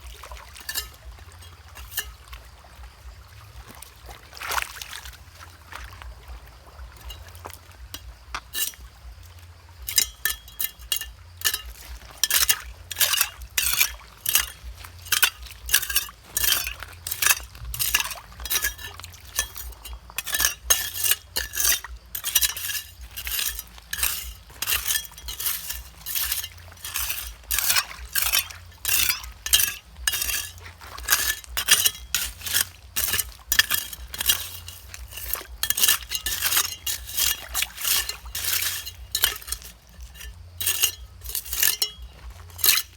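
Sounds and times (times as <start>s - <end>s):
metal tool clinking on stone: 0.6s - 2.2s, 7.0s - 8.8s, 9.8s - 42.9s.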